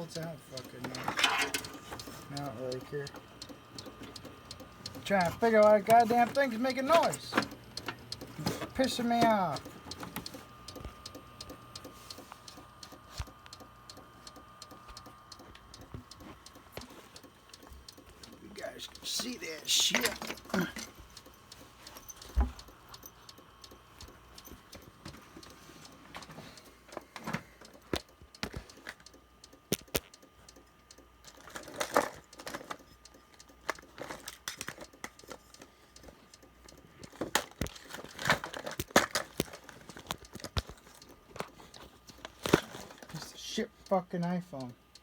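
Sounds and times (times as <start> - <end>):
faint steady whine: 0.0 - 45.0.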